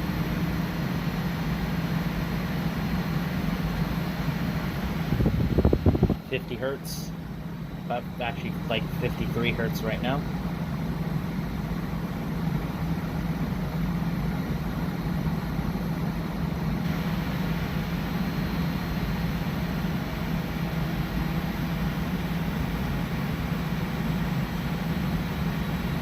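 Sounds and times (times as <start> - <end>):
air conditioner running: 0.0 - 26.0.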